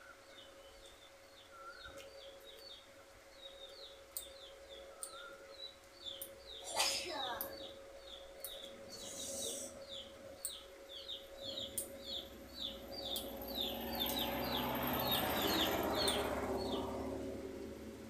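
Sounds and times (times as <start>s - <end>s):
small bird chirping: 0.0s - 17.3s.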